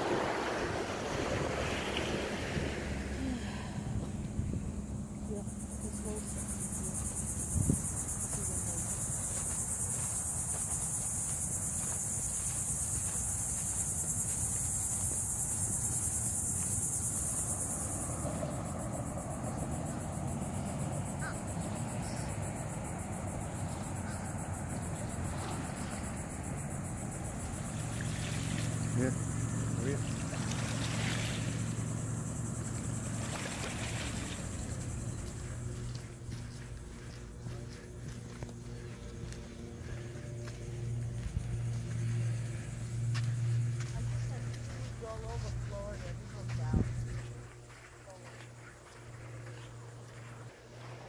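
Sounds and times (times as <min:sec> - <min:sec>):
steady low rumble: 0:00.0 - 0:11.7, 0:12.6 - 0:51.0
insects trilling: 0:00.0 - 0:51.0.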